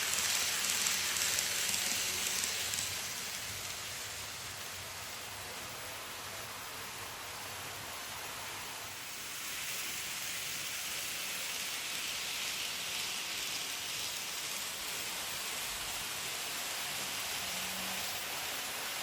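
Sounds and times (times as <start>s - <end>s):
model train whirring on track: 0.0s - 19.0s.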